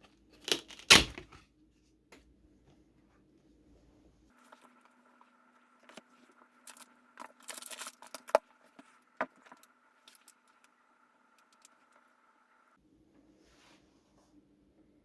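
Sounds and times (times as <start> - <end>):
faint steady hum: 1.1 - 15.0.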